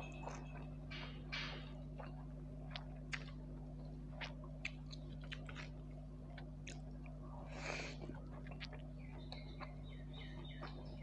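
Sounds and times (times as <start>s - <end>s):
person chewing noodles: 0.0s - 11.0s
steady low hum: 0.0s - 11.0s.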